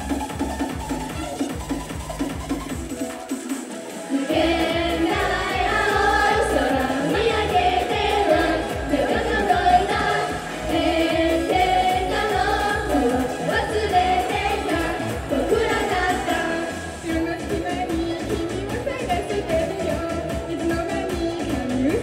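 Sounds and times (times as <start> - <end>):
pop song with singing: 0.0 - 22.0.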